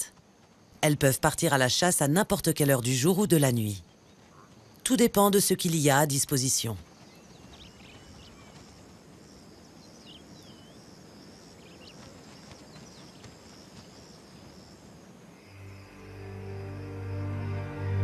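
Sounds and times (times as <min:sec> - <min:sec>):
insects trilling: 0:00.0 - 0:17.2.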